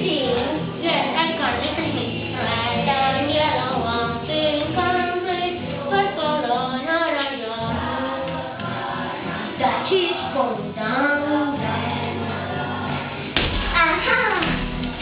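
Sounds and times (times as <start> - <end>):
high voices singing: 0.0 - 15.0.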